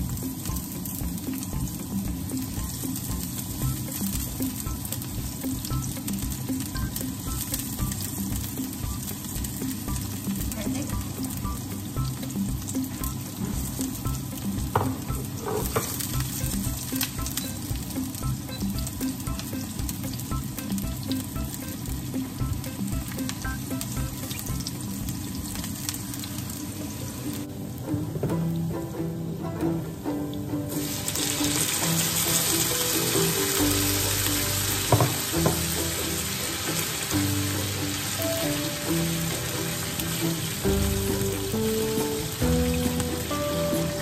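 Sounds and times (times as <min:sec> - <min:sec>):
garlic and onion sizzling in oil: 0:00.0 - 0:27.8, 0:30.3 - 0:44.0.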